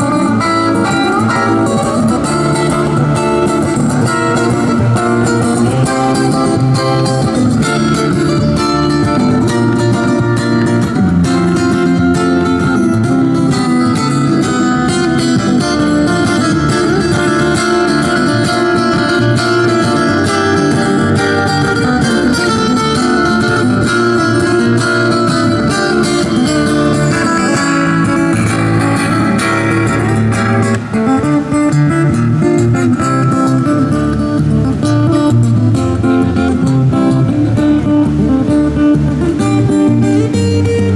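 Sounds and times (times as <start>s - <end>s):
amplified acoustic guitar fingerstyle: 0.0s - 40.9s.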